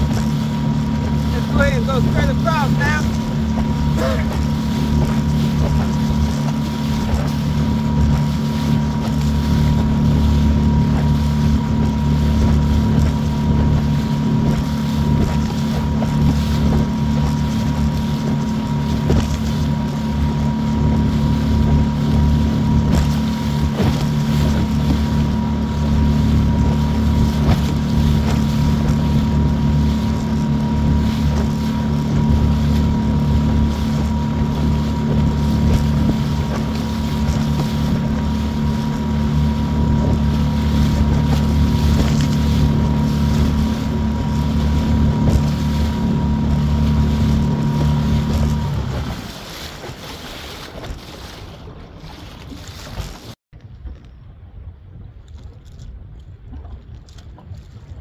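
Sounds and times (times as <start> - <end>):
boat motor running: 0.0 - 58.0
choppy water: 0.0 - 58.0
wind buffeting microphone: 0.0 - 58.0.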